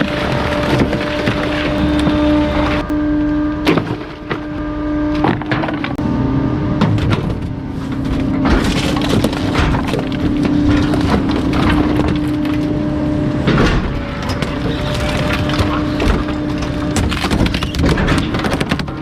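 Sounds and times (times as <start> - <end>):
garbage truck compactor hum: 0.0 - 19.0.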